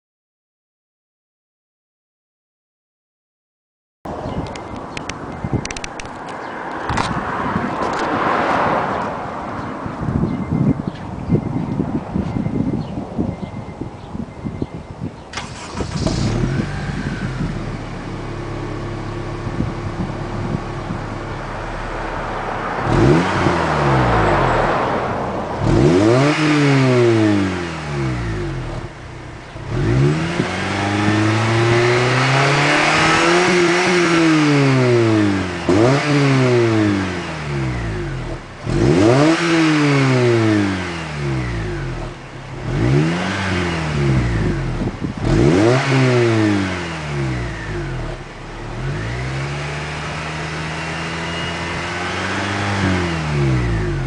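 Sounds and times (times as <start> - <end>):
car engine idling and revving: 4.1 - 14.4, 15.1 - 54.0.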